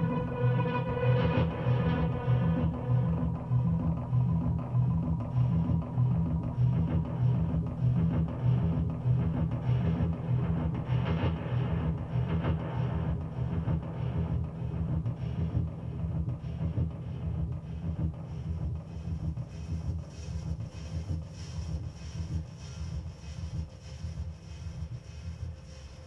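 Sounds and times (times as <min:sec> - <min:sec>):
music with pulsing low beat: 0:00.0 - 0:26.0.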